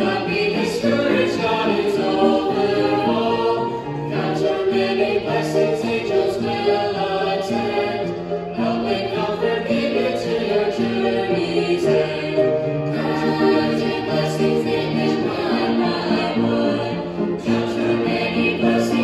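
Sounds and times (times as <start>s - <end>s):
choir singing a hymn in harmony: 0.0s - 19.0s.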